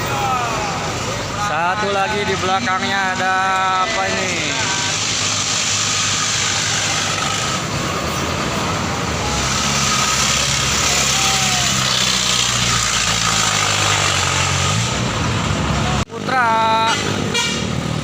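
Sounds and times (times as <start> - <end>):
diesel engine running: 0.0 - 18.0
tyre and road noise: 0.0 - 18.0.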